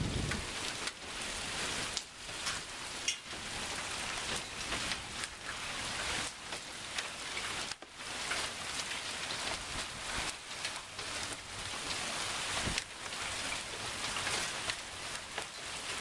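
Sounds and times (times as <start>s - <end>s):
heavy rain: 0.0s - 16.0s
raindrops ticking close by: 0.0s - 16.0s.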